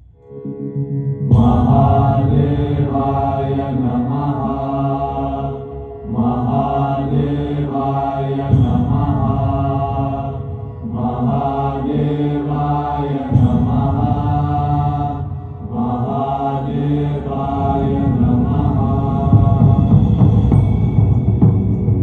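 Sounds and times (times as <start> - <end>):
low steady drone: 0.0 - 22.0
voices chanting: 1.3 - 20.7.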